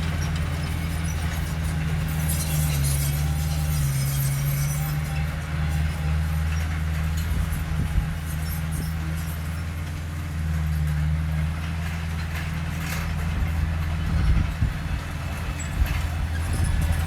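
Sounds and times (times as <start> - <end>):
large diesel engine droning: 0.0 - 17.0.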